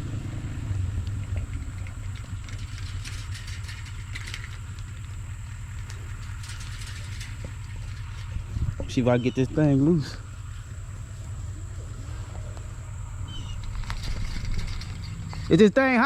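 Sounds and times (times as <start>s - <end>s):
engine idling: 0.0s - 16.0s
rustles: 0.0s - 16.0s.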